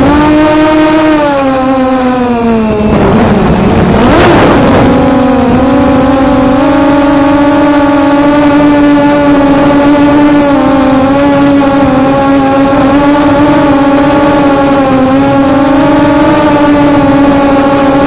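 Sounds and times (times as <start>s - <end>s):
drone motors buzzing: 0.0s - 18.0s
high whine: 0.0s - 18.0s.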